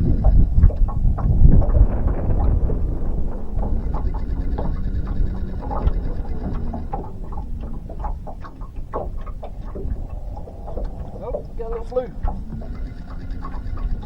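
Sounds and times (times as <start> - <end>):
moving water: 0.0 - 14.0
wind: 0.0 - 14.0.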